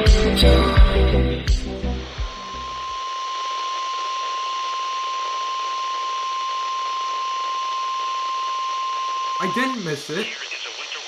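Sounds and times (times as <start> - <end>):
radio static hiss: 2.0 - 11.0
steady warning alarm tone: 2.1 - 11.0.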